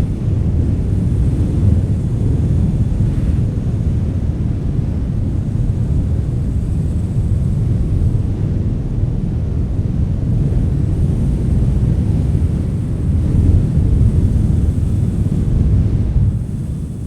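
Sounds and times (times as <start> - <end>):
strong wind rumbling: 0.0 - 17.0.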